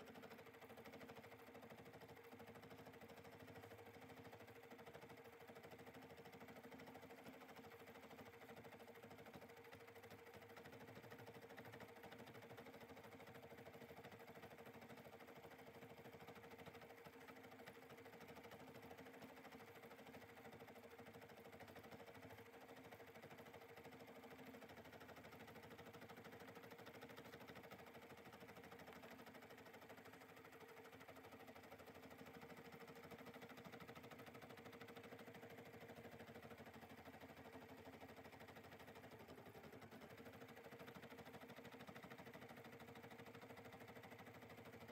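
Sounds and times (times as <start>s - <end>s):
embroidery machine whirring: 7.4s - 44.7s.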